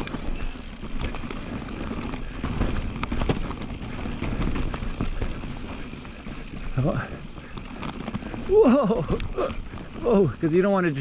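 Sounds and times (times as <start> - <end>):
bike knocking and rattling: 0.0 - 11.0
tyre noise: 0.0 - 11.0.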